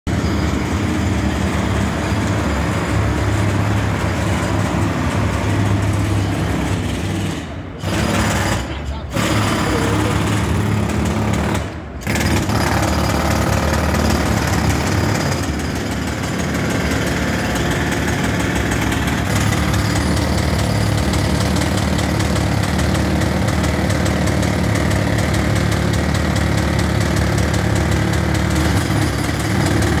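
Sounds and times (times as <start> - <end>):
jackhammer hammering pavement: 0.1 - 30.0.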